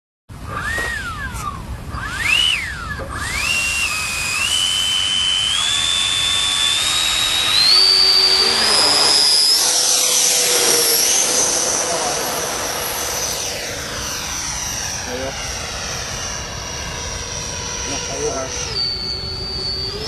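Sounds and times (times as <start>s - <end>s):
model jet ducted fans whining: 0.3s - 20.0s.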